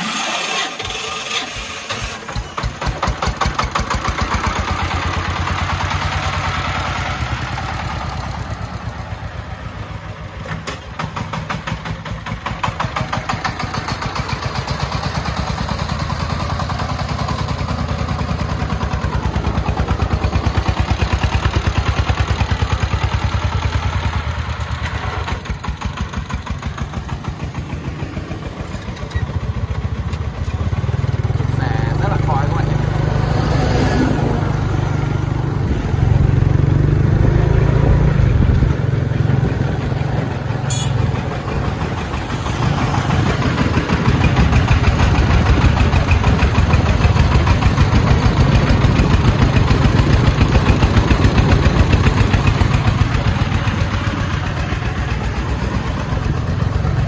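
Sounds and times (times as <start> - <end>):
single-cylinder diesel engine: 0.0 - 57.0.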